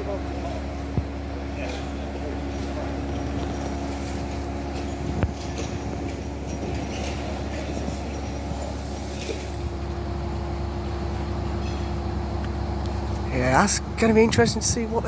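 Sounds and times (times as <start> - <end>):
roller coaster chain running: 0.0 - 15.0.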